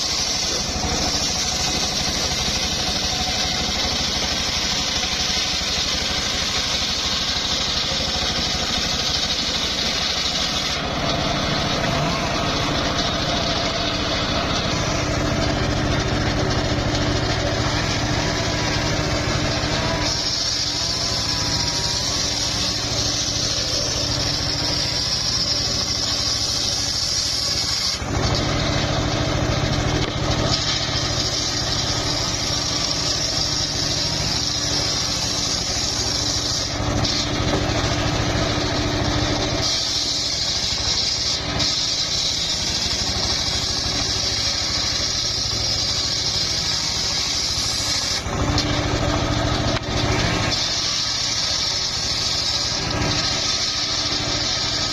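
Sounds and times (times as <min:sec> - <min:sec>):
circular sawmill cutting log: 0:00.0 - 0:54.9.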